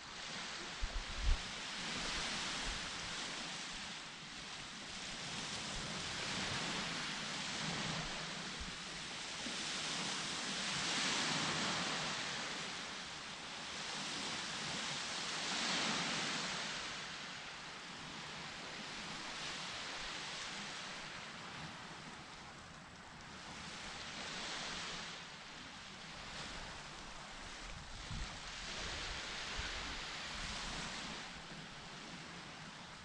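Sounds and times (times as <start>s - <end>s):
ocean waves washing onto beach: 0.0s - 33.0s.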